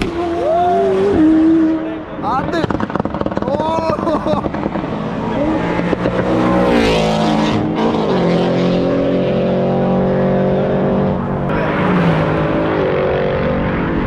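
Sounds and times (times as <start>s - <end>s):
car engine under hard throttle: 0.0s - 14.0s.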